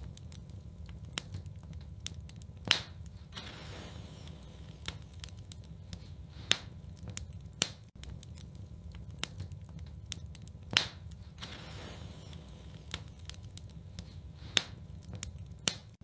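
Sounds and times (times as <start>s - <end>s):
low steady rumble: 0.0s - 16.0s
wood fire crackling and popping: 0.0s - 16.0s.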